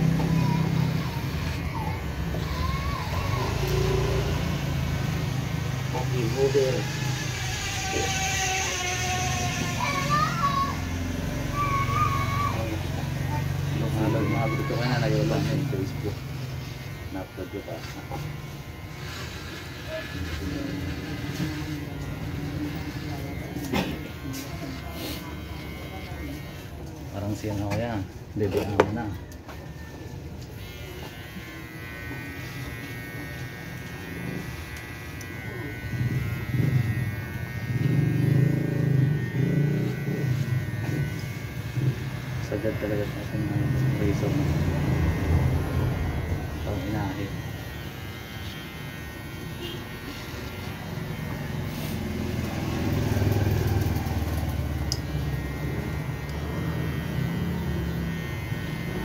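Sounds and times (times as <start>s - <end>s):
electric hair trimmer buzzing: 0.0s - 59.0s.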